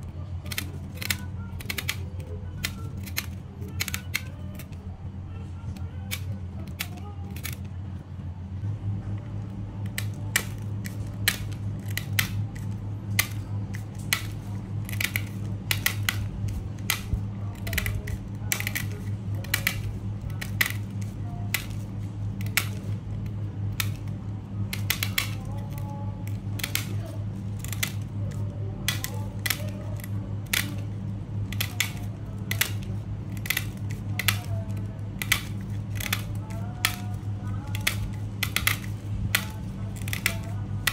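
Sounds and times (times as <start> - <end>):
scissors snipping plastic: 0.0 - 4.8, 5.7 - 7.7, 9.8 - 40.9
steady low hum: 0.0 - 40.9.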